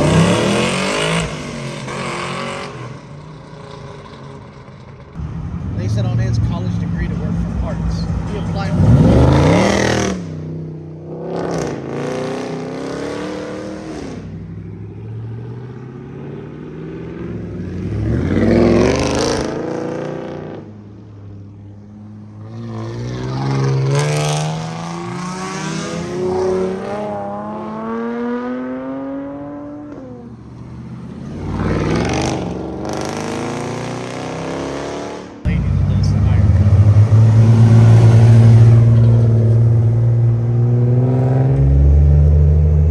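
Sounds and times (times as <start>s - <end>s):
car engines accelerating past: 3.7s - 20.7s, 22.1s - 42.9s.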